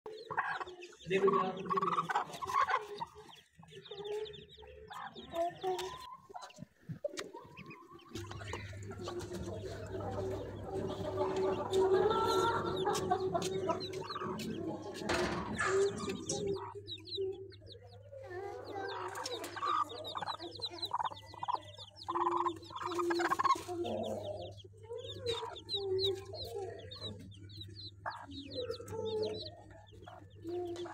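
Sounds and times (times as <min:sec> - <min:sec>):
chicks peeping: 0:00.1 - 0:30.9
hen clucking: 0:00.1 - 0:30.9.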